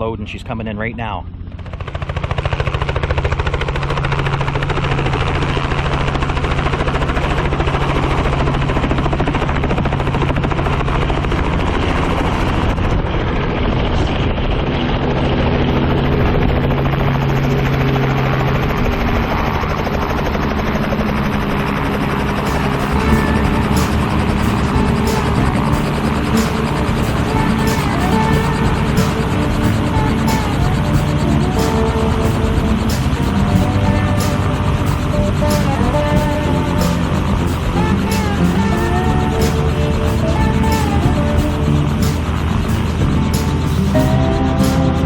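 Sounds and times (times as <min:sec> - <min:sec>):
helicopter rotor and engine: 0:00.1 - 0:45.0.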